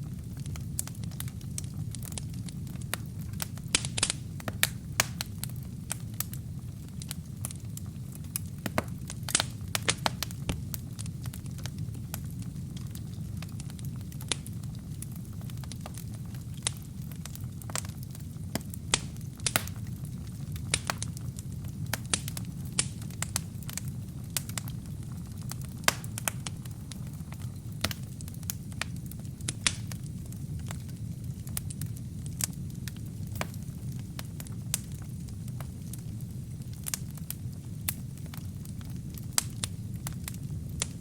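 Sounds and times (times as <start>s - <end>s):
fire crackling and popping: 0.0s - 41.0s
fire flames rumbling: 0.0s - 41.0s.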